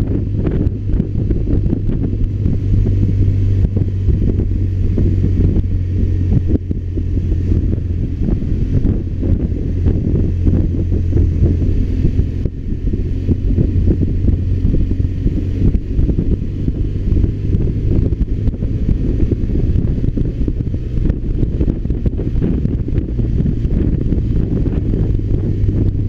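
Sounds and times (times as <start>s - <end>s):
motorcycle engine running: 0.0s - 26.0s
wind rumble on microphone: 0.0s - 26.0s.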